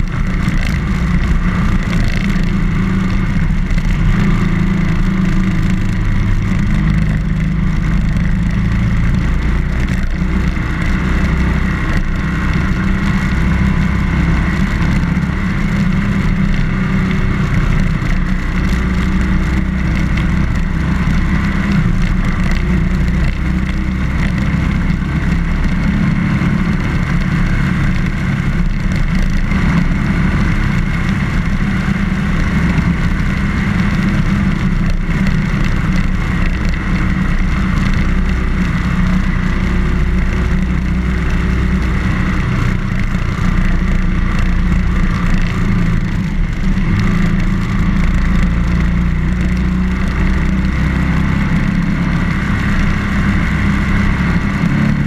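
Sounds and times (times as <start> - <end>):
motorcycle engine running: 0.0 - 55.0
steady rushing noise: 0.0 - 55.0.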